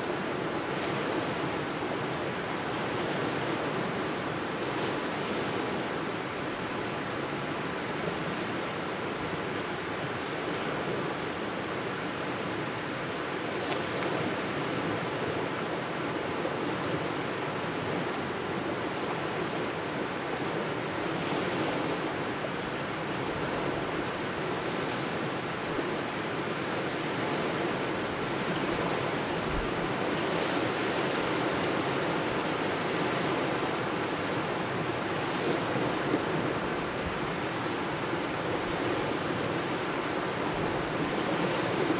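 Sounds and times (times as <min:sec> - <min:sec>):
small waves lapping on shore: 0:00.0 - 0:41.9.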